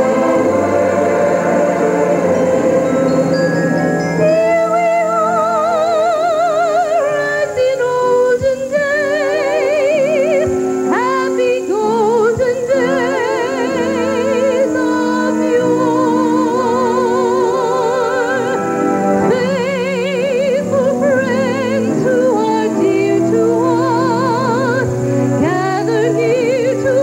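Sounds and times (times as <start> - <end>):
woman singing with vibrato: 0.0 - 3.4, 4.1 - 27.0
instrumental accompaniment: 0.0 - 27.0.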